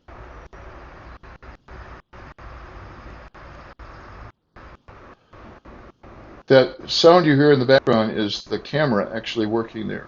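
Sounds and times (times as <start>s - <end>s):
background hiss: 0.0s - 10.0s.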